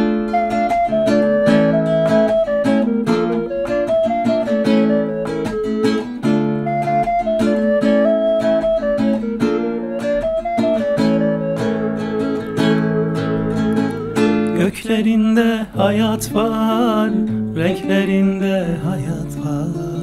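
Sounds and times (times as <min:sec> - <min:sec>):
classical guitar playing solo: 0:00.0 - 0:20.0.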